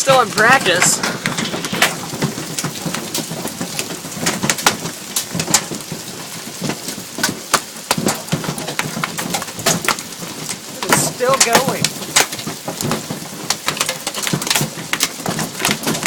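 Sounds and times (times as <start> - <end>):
hail striking hard surfaces: 0.0 - 16.0
rain hiss: 0.0 - 16.0.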